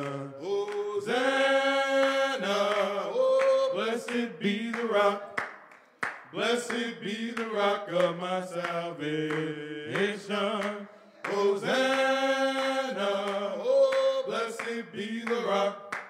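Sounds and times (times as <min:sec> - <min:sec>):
men singing in harmony: 0:00.0 - 0:05.5, 0:06.3 - 0:16.0.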